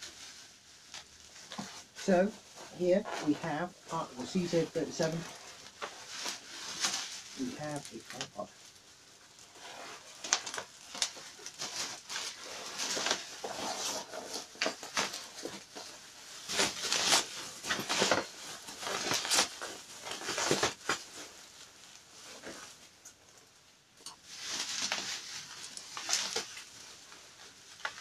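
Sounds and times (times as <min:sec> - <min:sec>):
bubble wrap crinkling: 0:00.0 - 0:28.0.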